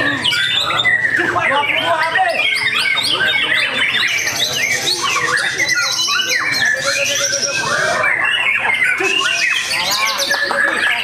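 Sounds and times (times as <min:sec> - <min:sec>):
bird singing whistles and trills: 0:00.0 - 0:11.0.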